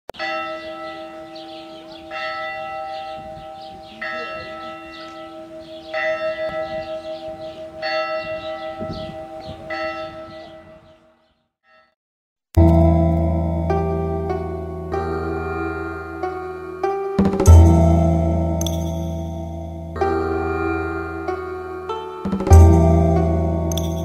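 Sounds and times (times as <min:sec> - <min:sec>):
bell tolling slowly: 0:00.2 - 0:10.8, 0:12.6 - 0:24.0.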